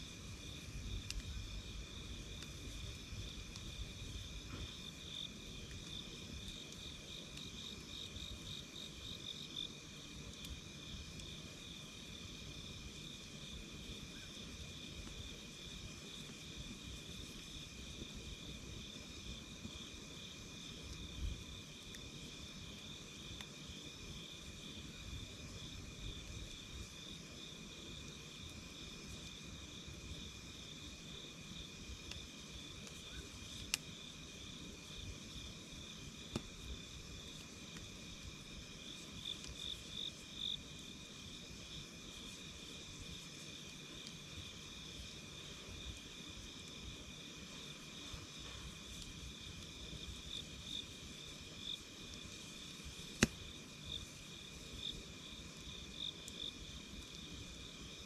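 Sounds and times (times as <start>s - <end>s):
campfire crackling: 0.0s - 58.0s
night insects chirping: 0.0s - 58.0s.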